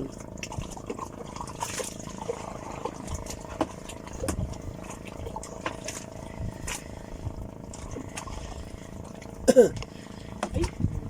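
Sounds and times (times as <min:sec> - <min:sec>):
small boat engine humming: 0:00.0 - 0:11.0.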